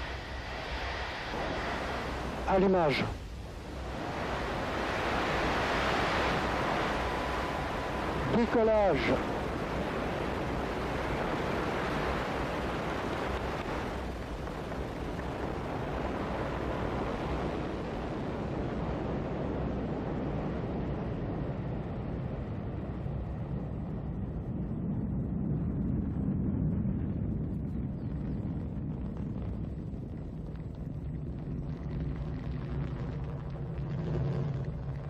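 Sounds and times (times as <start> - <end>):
rocket engine roar: 0.0 - 35.0.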